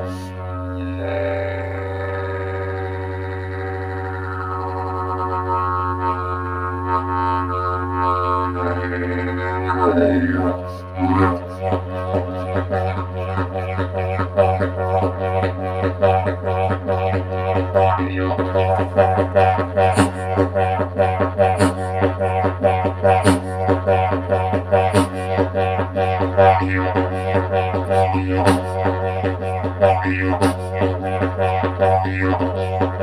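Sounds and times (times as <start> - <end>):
didgeridoo drone: 0.0 - 33.0.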